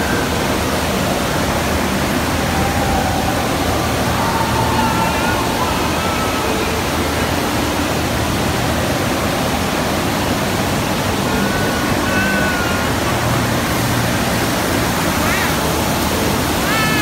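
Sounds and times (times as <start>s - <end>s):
rushing water from surf simulator: 0.0s - 17.0s.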